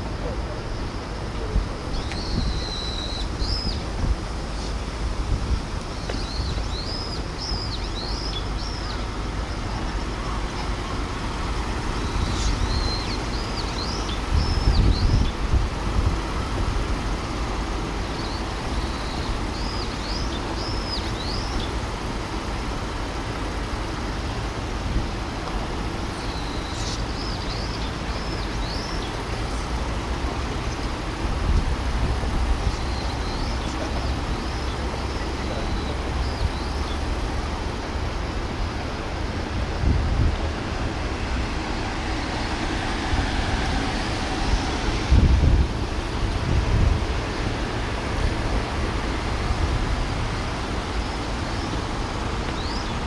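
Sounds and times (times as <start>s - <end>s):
city traffic: 0.0s - 53.0s
wind rumbling on microphone: 0.0s - 53.0s.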